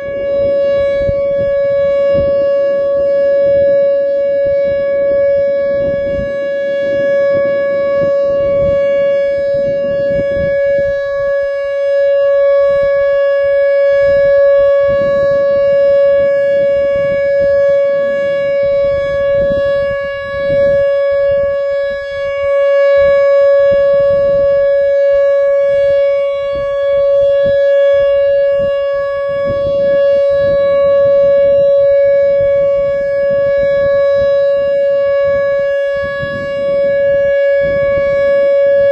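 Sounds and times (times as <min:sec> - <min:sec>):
electronic siren steady tone: 0:00.0 - 0:38.9.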